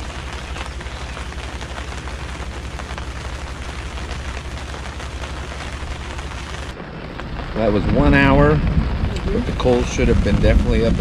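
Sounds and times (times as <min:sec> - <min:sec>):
heavy rain on canopy tent: 0:00.0 - 0:11.0
low rumble: 0:00.0 - 0:11.0.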